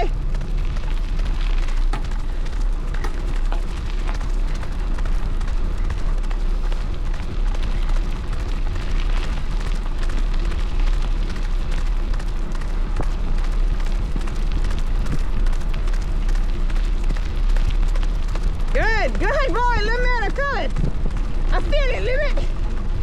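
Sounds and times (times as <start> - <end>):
bike rolling along trail: 0.0 - 23.0
wind buffeting microphone: 0.0 - 23.0.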